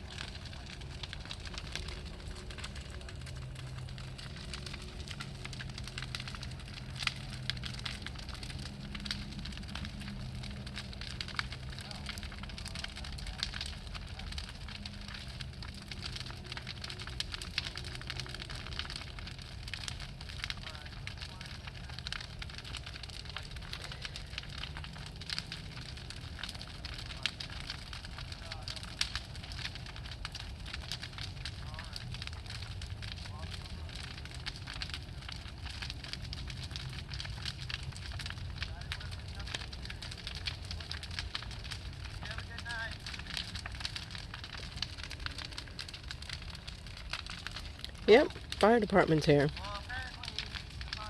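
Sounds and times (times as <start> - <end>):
bonfire crackling and popping: 0.0 - 51.0.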